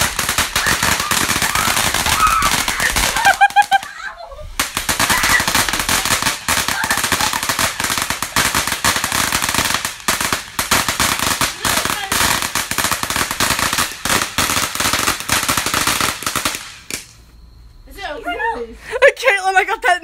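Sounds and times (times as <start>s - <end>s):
firework fountain crackling: 0.0s - 17.3s.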